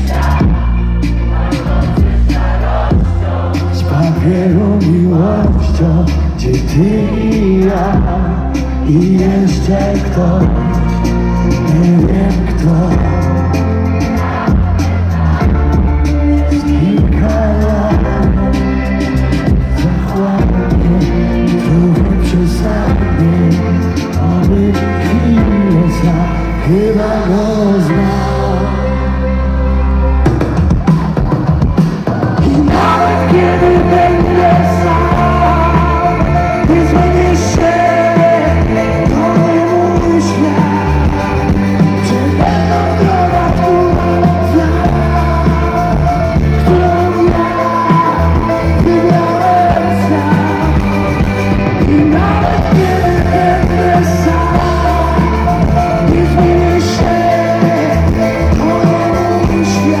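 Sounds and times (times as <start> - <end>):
man singing: 0.0 - 29.9, 32.0 - 60.0
live rock band: 0.0 - 60.0.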